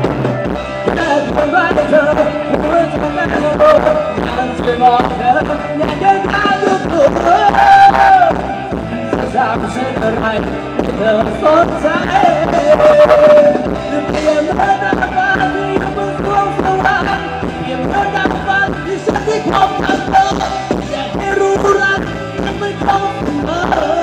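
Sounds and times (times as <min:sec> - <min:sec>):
band music: 0:00.0 - 0:24.0
person singing: 0:00.8 - 0:24.0.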